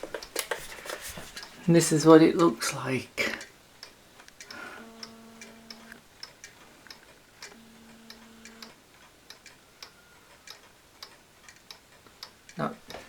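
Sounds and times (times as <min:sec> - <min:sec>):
low steady hum: 0:00.0 - 0:13.0
wall clocks ticking: 0:00.0 - 0:13.0.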